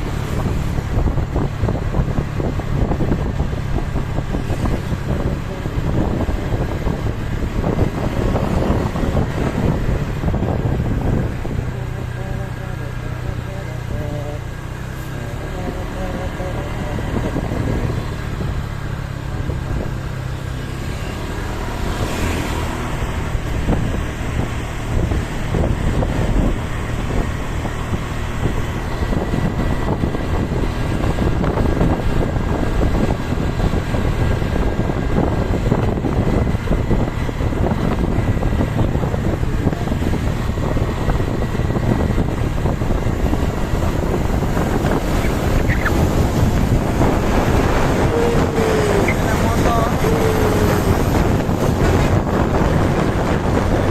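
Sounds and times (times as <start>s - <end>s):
traffic engine and road noise: 0.0s - 53.9s
wind on microphone: 0.0s - 53.9s.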